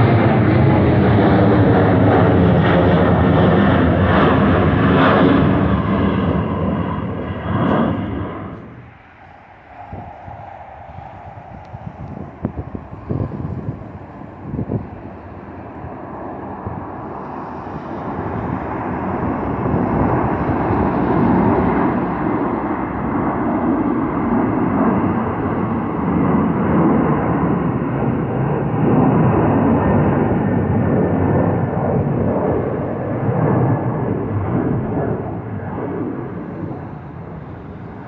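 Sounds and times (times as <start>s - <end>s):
jet engine rumble: 0.0s - 38.0s.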